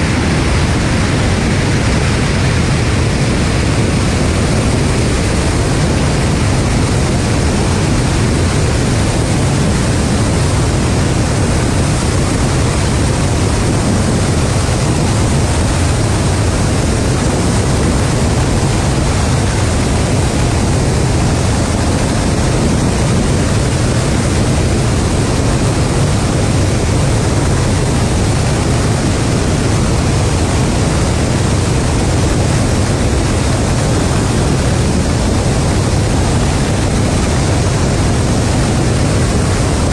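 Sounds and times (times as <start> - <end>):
deep rushing jet noise: 0.0 - 39.9.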